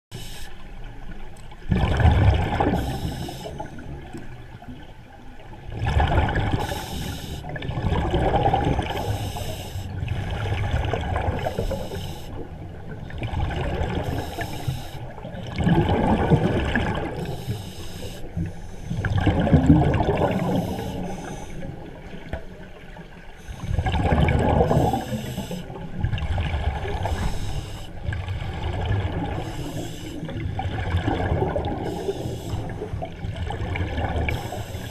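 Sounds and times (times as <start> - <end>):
scuba regulator breathing bubbles: 0.1 - 0.6, 1.8 - 4.0, 5.9 - 12.6, 13.5 - 22.0, 23.4 - 34.9.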